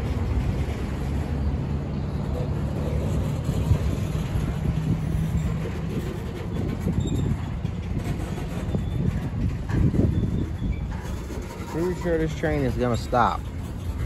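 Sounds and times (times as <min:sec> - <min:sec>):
train cars clunking: 0:00.0 - 0:14.0
train wheels rumbling on rail: 0:00.0 - 0:14.0.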